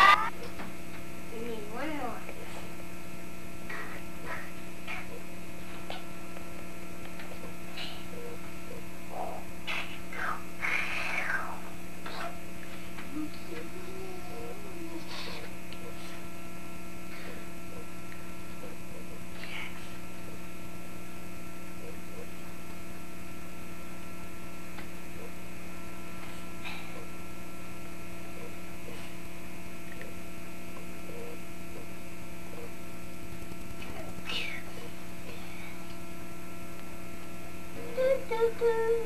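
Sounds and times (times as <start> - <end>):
electrical mains hum: 0.0 - 39.0.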